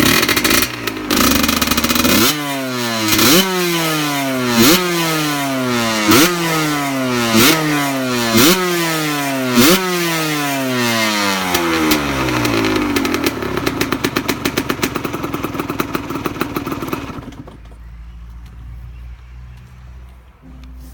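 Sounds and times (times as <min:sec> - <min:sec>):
motorcycle engine revving and idling: 0:00.0 - 0:18.5.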